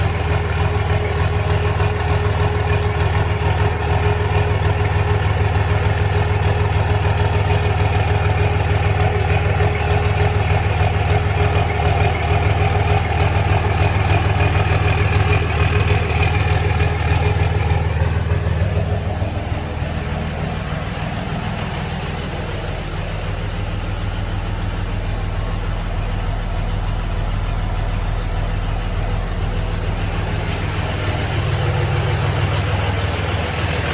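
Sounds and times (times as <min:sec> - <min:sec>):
diesel engine idling roughly: 0:00.0 - 0:33.9.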